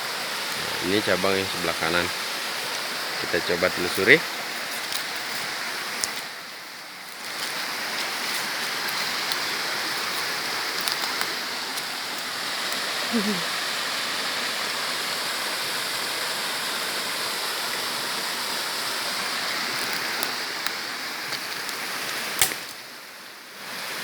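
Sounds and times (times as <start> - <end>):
river and waterfall rushing: 0.0 - 24.0.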